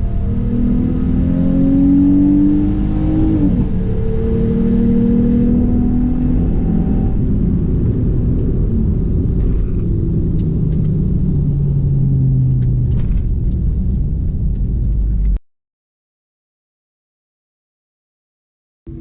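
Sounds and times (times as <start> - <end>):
car engine running at speed: 0.0 - 15.4
road rumble: 0.0 - 15.4.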